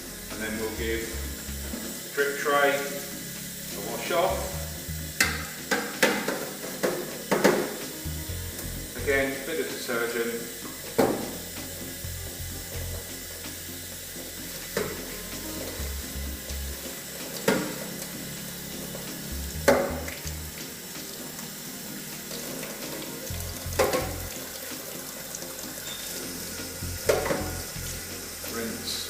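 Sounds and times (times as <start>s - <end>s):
tap water running into sink: 0.0s - 29.0s.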